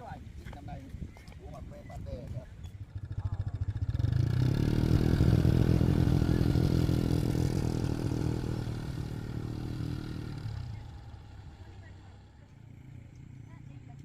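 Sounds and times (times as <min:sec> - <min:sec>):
motorbike engine running: 0:02.6 - 0:14.0.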